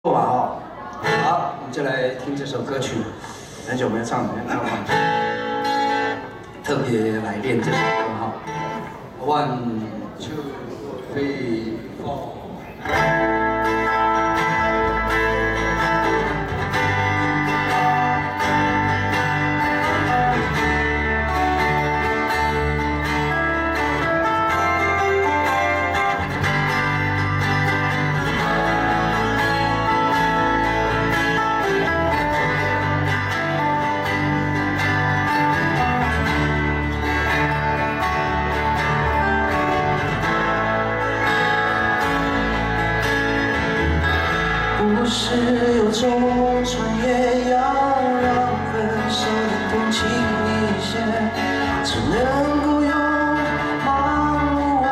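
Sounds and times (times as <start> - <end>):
acoustic guitars strummed and picked: 0.2 - 1.8, 2.6 - 9.2, 12.6 - 54.9.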